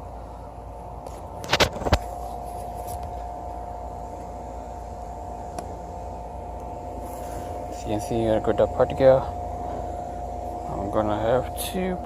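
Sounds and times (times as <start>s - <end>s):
constant faint tone: 0.0s - 12.0s.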